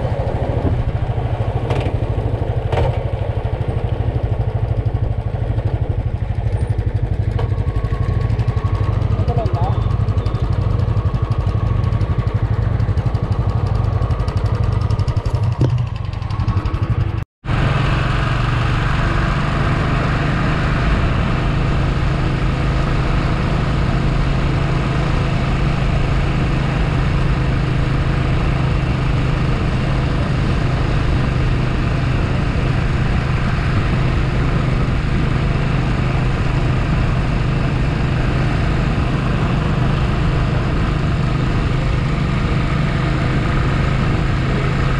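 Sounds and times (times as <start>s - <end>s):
motorcycle engine humming: 0.0s - 44.9s.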